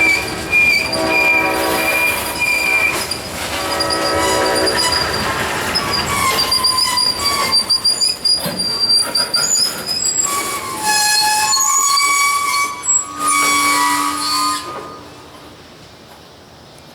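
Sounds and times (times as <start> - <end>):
train wheels squealing on rails: 0.0 - 16.3.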